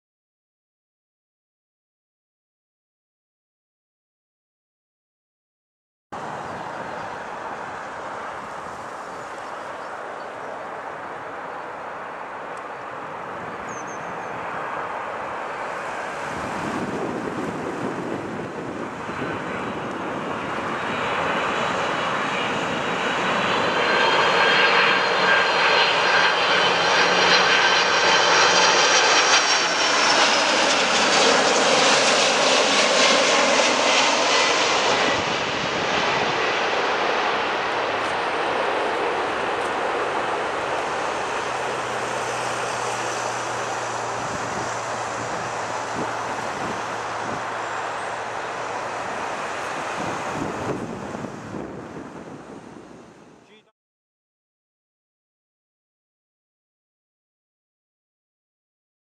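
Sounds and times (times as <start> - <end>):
jet airliner passing with whine: 6.2 - 53.7.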